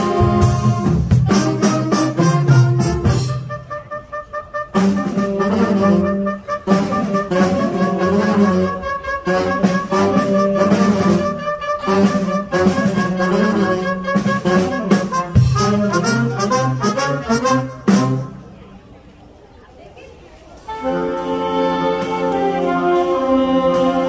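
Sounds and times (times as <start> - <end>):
saxophone ensemble playing: 0.0 - 18.6, 20.7 - 24.0.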